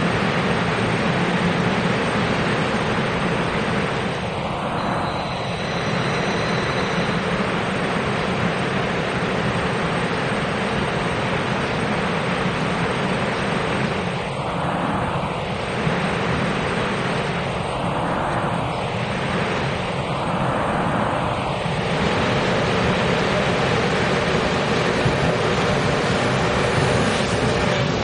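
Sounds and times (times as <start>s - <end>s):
train approaching rumble: 0.0s - 28.0s.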